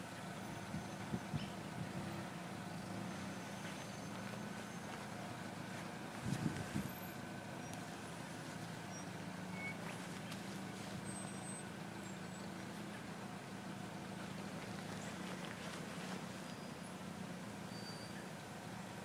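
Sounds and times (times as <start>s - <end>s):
vehicle engines idling: 0.0s - 19.0s.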